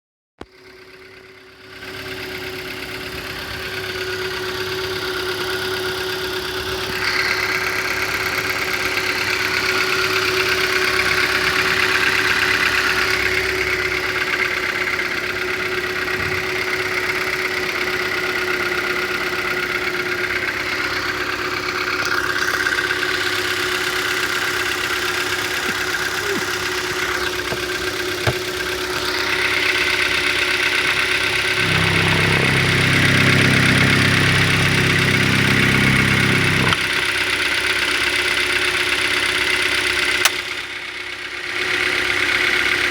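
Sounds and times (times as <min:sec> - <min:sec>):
car engine idling with knock: 0:00.4 - 0:42.9.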